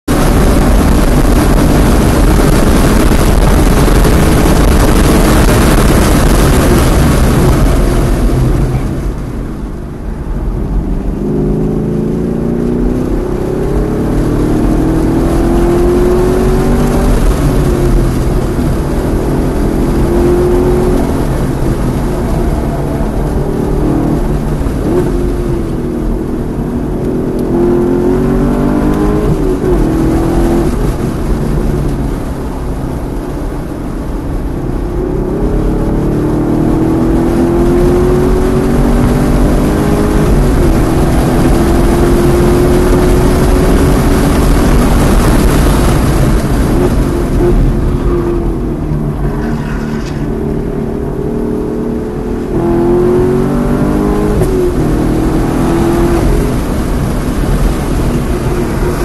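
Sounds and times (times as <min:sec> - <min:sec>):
car engine revving: 0:00.0 - 0:59.0
wind and road noise: 0:00.0 - 0:59.0.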